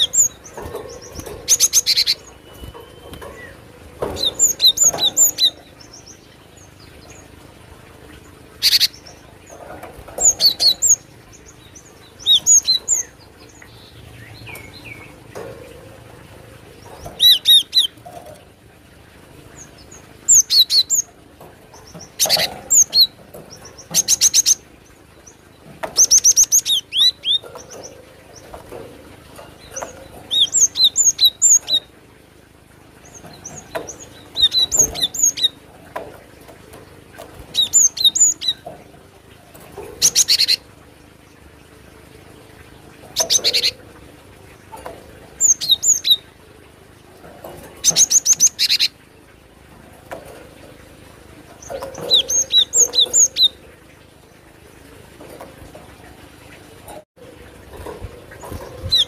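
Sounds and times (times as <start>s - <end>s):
bird harsh rattling churrs: 0.0s - 41.4s, 42.4s - 59.0s.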